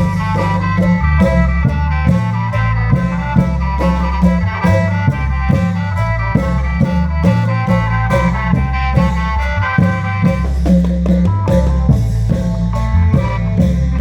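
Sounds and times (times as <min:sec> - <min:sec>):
heavy bass: 0:00.0 - 0:14.0
held-tone reed melody: 0:00.0 - 0:14.0
steady drum beat: 0:00.0 - 0:14.0.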